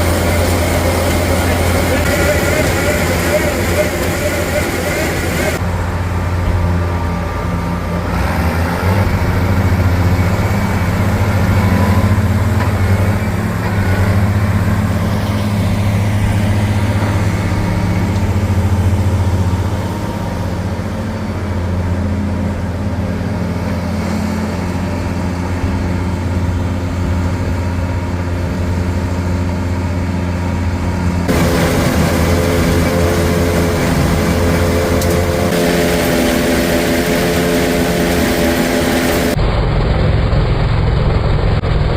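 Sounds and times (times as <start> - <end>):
vehicle engine humming: 0.0 - 41.9.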